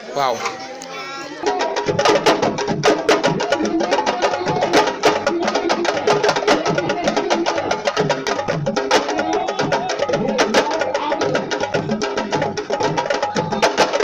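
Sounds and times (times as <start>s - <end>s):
fast hand drumming: 1.4s - 14.0s.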